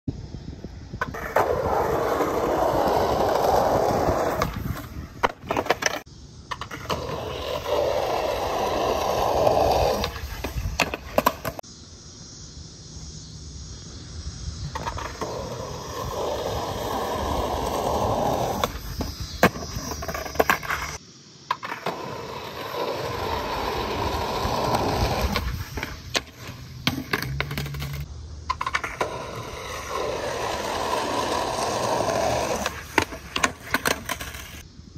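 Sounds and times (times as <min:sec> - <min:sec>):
skateboard wheels rolling on asphalt: 0:00.1 - 0:34.9
skateboard clattering on pavement: 0:01.0 - 0:11.6, 0:14.7 - 0:34.6
skateboard tail popping: 0:01.0 - 0:11.6, 0:14.7 - 0:34.6.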